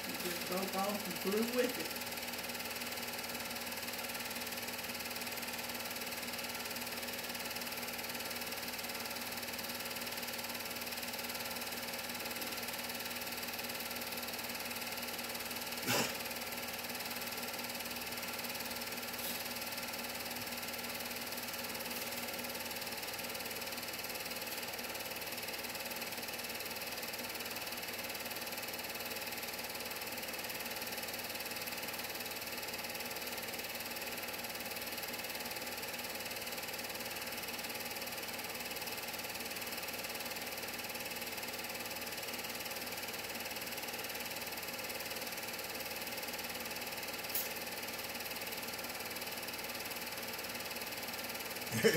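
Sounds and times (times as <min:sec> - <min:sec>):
film projector running: 0:00.0 - 0:51.9.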